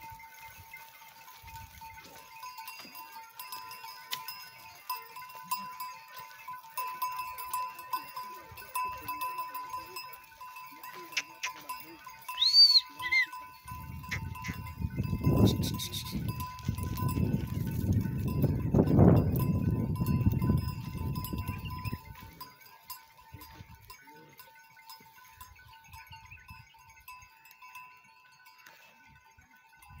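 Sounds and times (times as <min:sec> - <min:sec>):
hooves rumbling on sand: 0:00.0 - 0:12.2, 0:13.6 - 0:26.3
goat bells clinking: 0:00.0 - 0:30.0.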